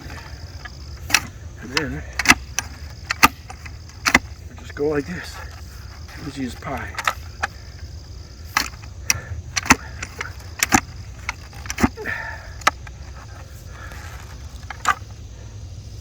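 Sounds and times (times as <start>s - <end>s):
post hole digger clacking: 0.0s - 15.4s
steady low hum: 0.0s - 16.0s.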